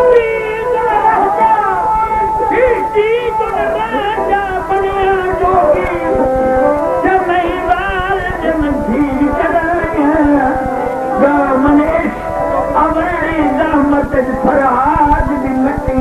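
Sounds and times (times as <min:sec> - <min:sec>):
wavering melody: 0:00.0 - 0:16.0.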